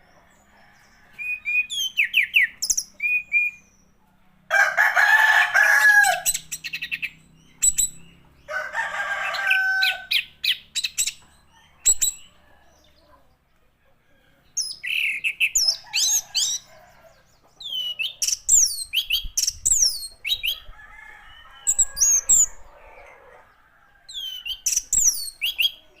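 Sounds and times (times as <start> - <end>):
rough bird calls: 0.0 - 4.0, 5.4 - 13.5, 14.1 - 26.0.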